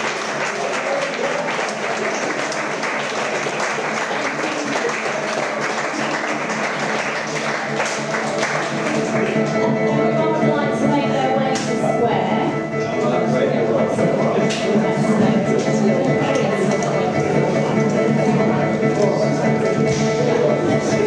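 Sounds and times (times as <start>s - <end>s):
crowd applauding: 0.0s - 10.9s, 12.5s - 21.0s
music playing: 0.0s - 21.0s.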